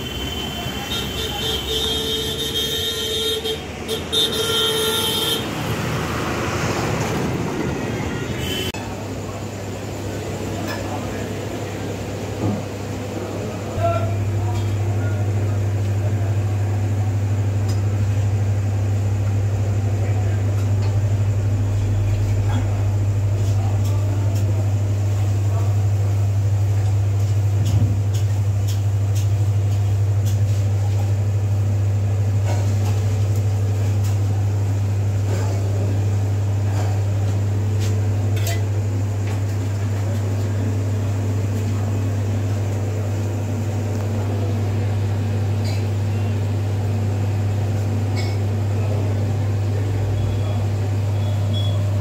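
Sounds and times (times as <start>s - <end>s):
loud low machine hum: 0.0s - 52.0s.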